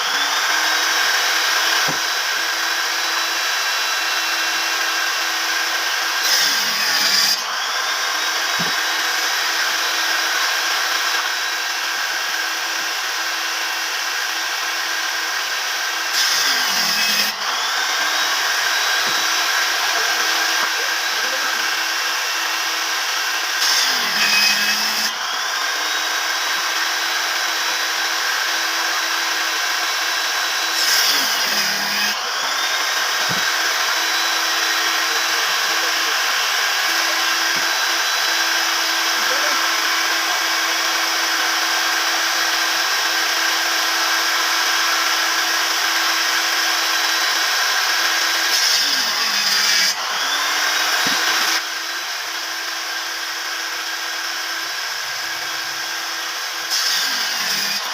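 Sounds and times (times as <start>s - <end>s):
power tool cutting wood: 0.0s - 57.9s
power tool motor whine: 0.0s - 57.9s.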